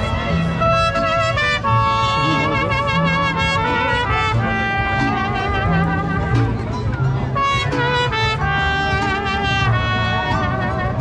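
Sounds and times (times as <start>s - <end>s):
low bass notes: 0.0s - 11.0s
trumpets with vibrato: 0.0s - 11.0s
violins and guitars: 0.0s - 11.0s.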